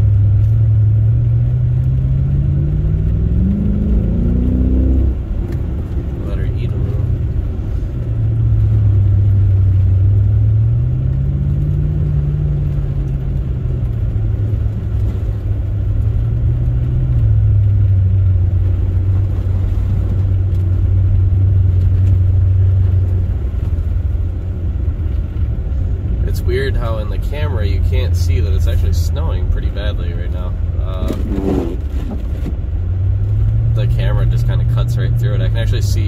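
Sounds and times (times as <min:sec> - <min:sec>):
car engine drone from cabin: 0:00.0 - 0:36.0.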